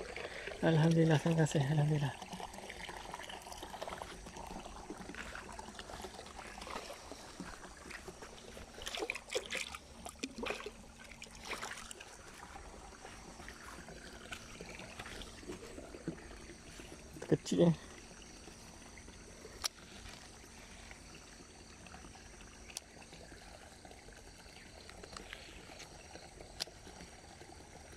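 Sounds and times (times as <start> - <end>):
stream water trickling: 0.0 - 27.9.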